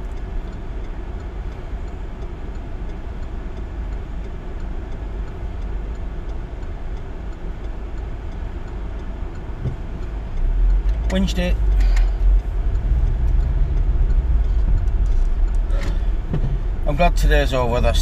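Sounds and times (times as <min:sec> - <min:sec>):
car engine idling: 0:00.0 - 0:18.0
turn indicator ticking: 0:00.0 - 0:18.0.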